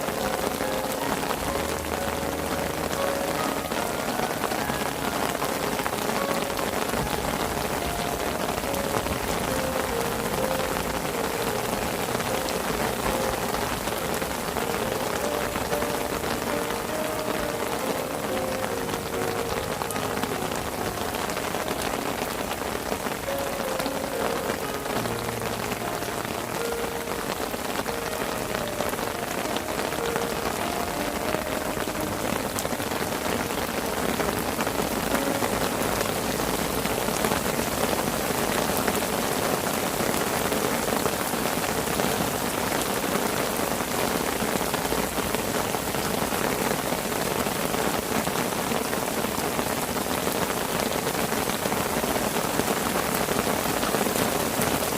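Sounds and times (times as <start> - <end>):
rain pattering on a parasol: 0.0 - 54.9.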